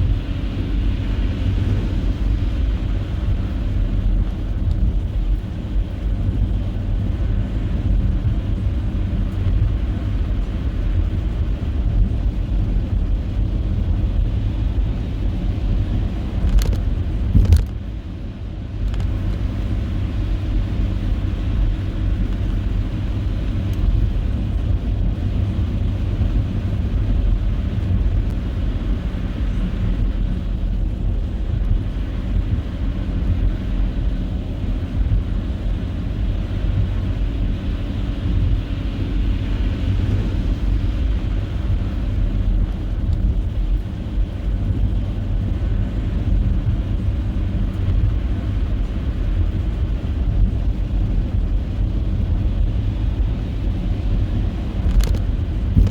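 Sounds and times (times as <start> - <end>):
car driving through snow: 0.0 - 55.9.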